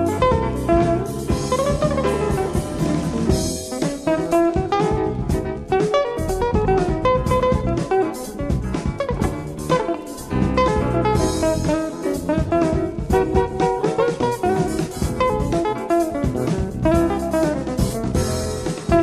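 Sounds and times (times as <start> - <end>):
jazz band playing: 0.0 - 19.0.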